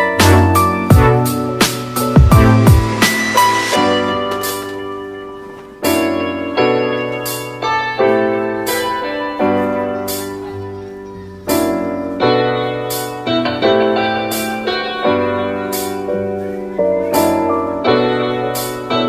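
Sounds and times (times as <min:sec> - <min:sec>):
piano chords ringing: 0:00.0 - 0:19.0.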